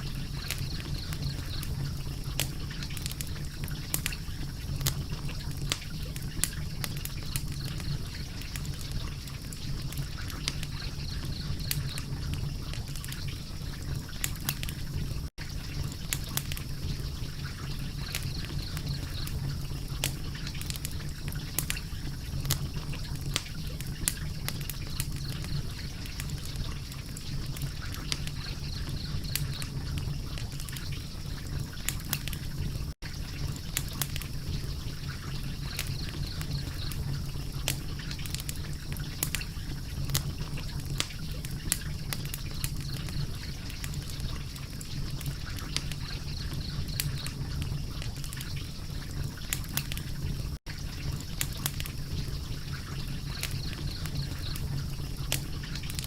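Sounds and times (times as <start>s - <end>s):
low rumble of burning: 0.0s - 56.0s
sharp fire pops: 0.0s - 56.0s
wood fire crackling: 0.0s - 56.0s.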